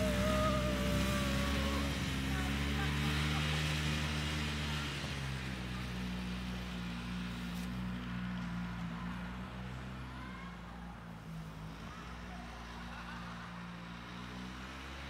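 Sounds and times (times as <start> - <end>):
snowmobile engine running: 0.0 - 13.3.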